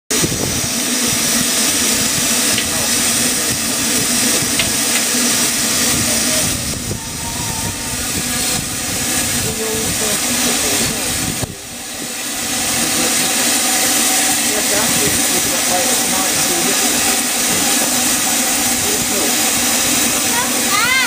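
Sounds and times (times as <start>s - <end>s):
steam locomotive hissing steam: 0.1s - 21.0s.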